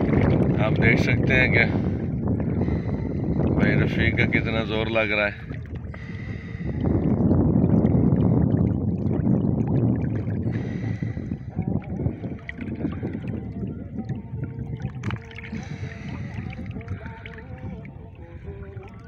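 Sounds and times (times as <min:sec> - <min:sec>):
wind and water noise on microphone: 0:00.0 - 0:19.0.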